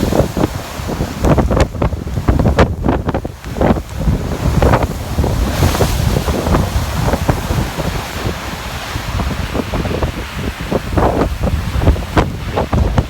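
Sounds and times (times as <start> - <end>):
storm waves breaking: 0.0 - 13.0
wind buffeting microphone: 0.0 - 13.0.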